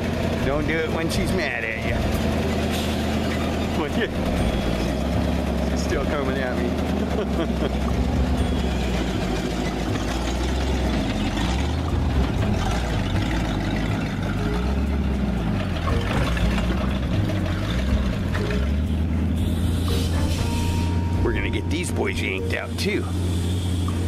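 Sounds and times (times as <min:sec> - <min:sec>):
dump truck engine running: 0:00.0 - 0:24.0.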